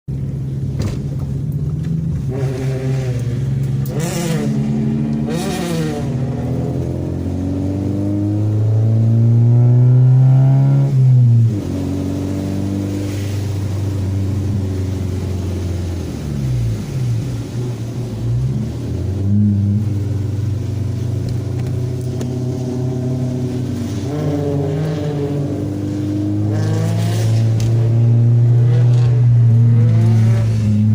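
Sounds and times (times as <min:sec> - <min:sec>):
car engine revving: 0:00.6 - 0:30.9.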